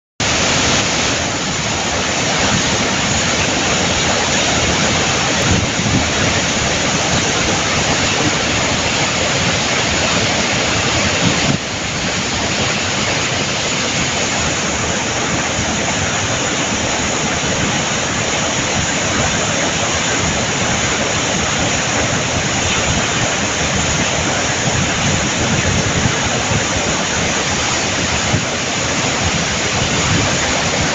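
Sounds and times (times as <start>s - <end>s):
waterfall and rapids rushing: 0.2s - 30.9s.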